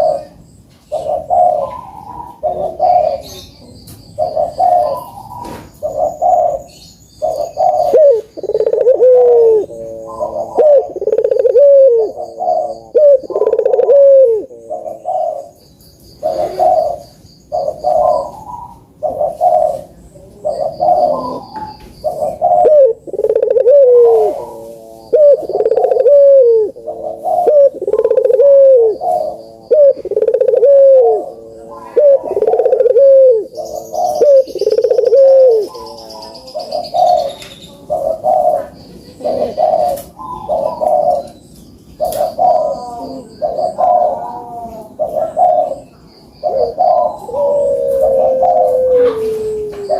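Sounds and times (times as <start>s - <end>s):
collared dove cooing: 0.0s - 15.6s, 16.2s - 49.9s
faint high chirps of small birds: 0.0s - 49.9s.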